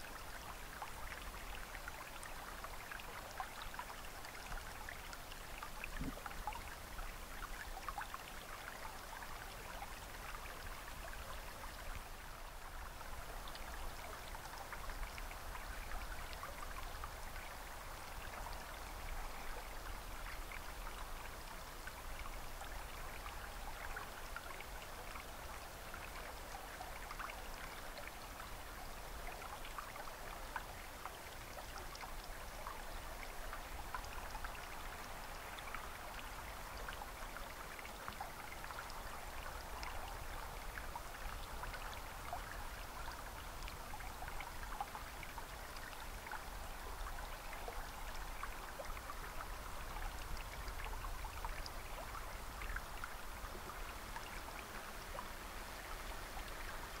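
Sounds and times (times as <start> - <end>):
water trickling in a canal: 0.0 - 57.0.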